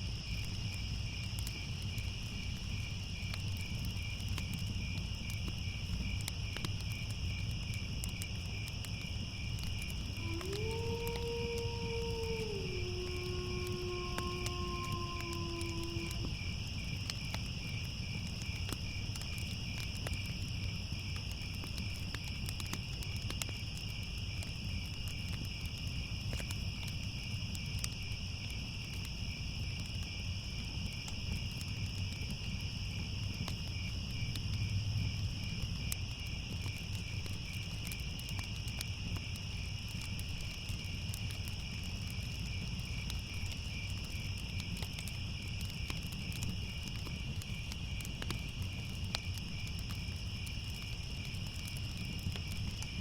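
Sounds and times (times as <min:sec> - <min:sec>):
crickets chirping: 0:00.0 - 0:53.0
fire crackling: 0:00.0 - 0:53.0.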